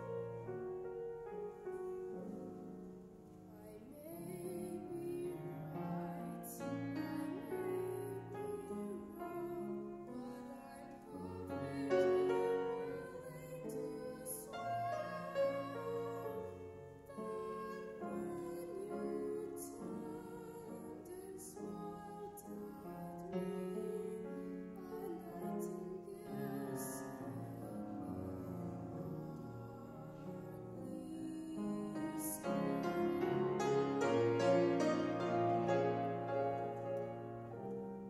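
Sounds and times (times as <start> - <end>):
grand piano: 0.0 - 38.0
woman singing: 3.5 - 36.3.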